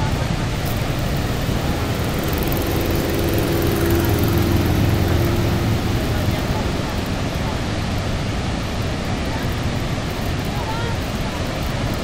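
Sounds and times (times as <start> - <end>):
engine hum with drone: 0.0 - 12.0
waterfall roaring: 0.0 - 12.0.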